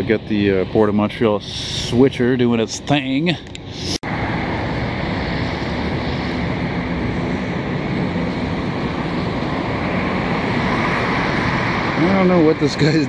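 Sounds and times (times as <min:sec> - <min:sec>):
faint low engine hum: 0:00.0 - 0:13.0
road traffic roar: 0:00.0 - 0:13.0.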